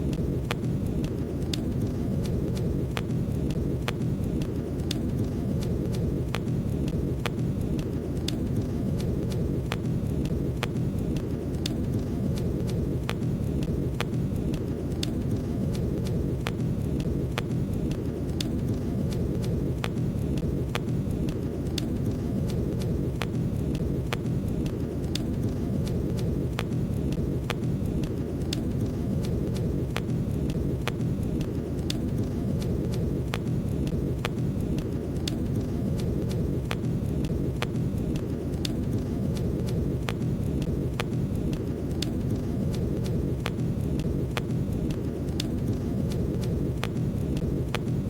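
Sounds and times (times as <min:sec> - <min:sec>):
fire crackling and popping: 0:00.0 - 0:48.0
low rumble of flames: 0:00.0 - 0:48.0.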